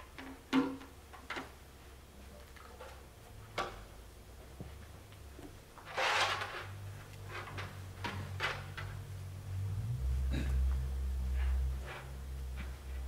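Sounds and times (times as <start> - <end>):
low steady hum: 0.8 - 13.0.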